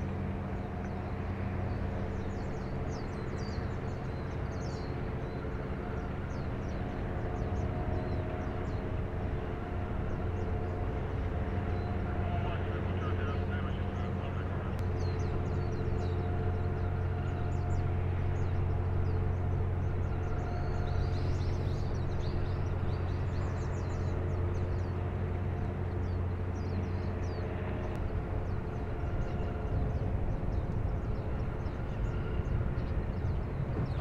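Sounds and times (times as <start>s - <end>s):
engine drone: 0.0s - 34.0s
small birds chirping: 0.6s - 9.0s, 10.0s - 25.1s, 25.8s - 34.0s.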